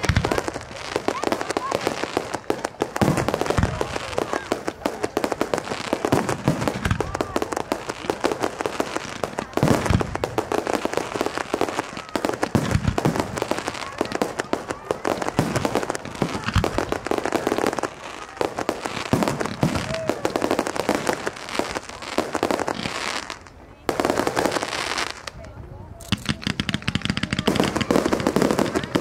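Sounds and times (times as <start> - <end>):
fireworks bangs and crackling: 0.0 - 29.0
fireworks booms: 0.0 - 29.0.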